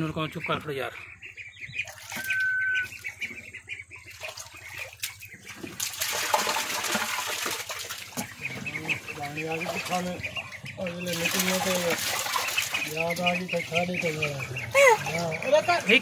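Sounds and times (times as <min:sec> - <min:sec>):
faint high peeping: 0:00.0 - 0:05.6, 0:08.2 - 0:16.0
ducklings splashing in water: 0:00.0 - 0:16.0.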